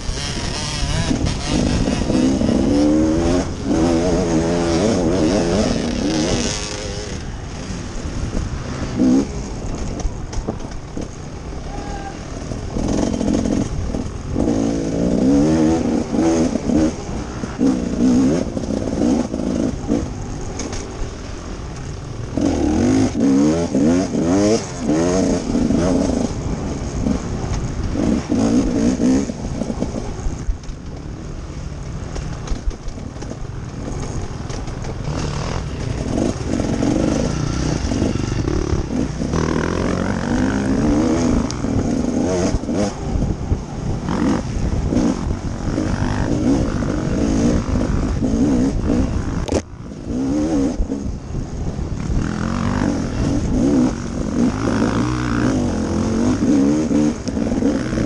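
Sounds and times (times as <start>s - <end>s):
dirt bike engine revving: 0.0s - 10.2s, 11.0s - 30.2s, 33.8s - 51.2s, 51.9s - 58.0s.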